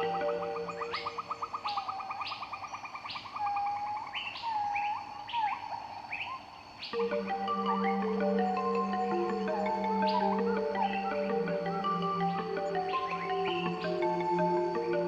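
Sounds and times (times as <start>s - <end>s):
upward-sweeping bird calls: 0.0s - 15.0s.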